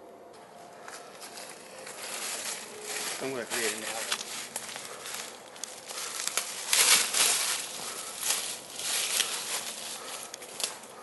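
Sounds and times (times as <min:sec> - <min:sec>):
footsteps crunching dry leaves: 0:00.8 - 0:11.0.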